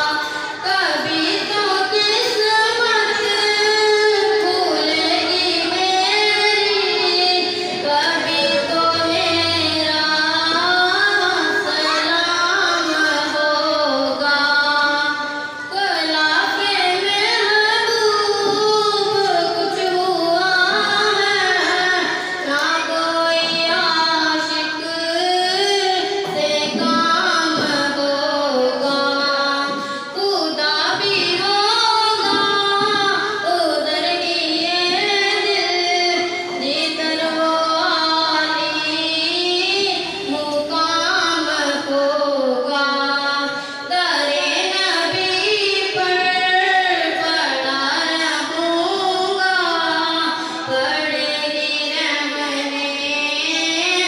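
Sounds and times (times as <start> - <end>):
boy singing into a microphone: 0.0 - 54.0.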